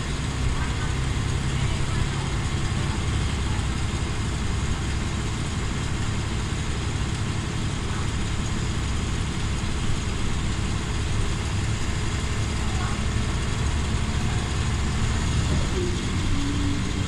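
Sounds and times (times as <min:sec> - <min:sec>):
bus diesel engine droning: 0:00.0 - 0:17.0
road and cabin noise: 0:00.0 - 0:17.0.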